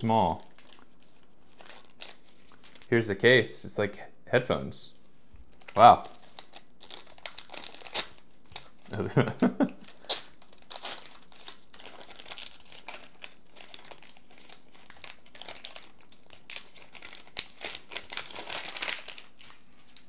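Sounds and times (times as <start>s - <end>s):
packaging wrap crinkling: 0.0s - 3.0s, 5.0s - 20.0s.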